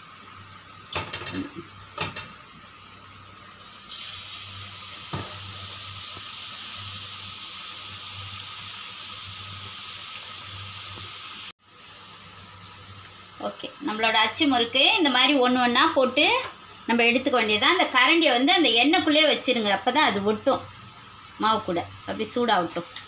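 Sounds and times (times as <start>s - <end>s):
batter sizzling in hot oil: 0.0s - 23.0s.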